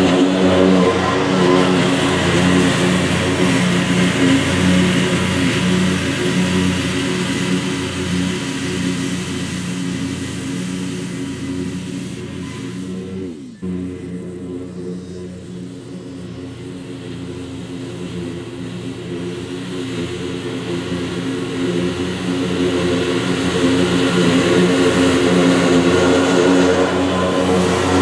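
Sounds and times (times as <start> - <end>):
mower engine and cutting deck: 0.0 - 28.0.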